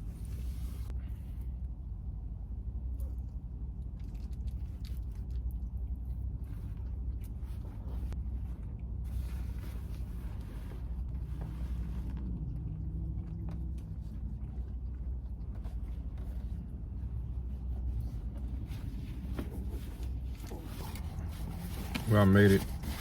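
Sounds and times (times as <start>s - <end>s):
engine and road noise rumble: 0.0s - 23.0s
faint hum: 0.0s - 23.0s.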